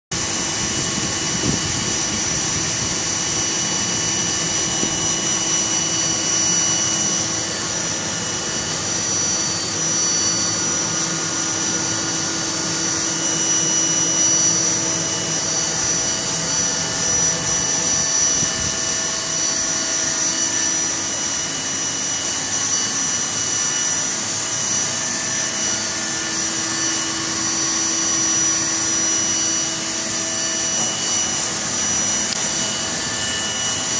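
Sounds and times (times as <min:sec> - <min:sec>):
blower air rushing: 0:00.1 - 0:33.9
high steady whine: 0:00.1 - 0:33.9.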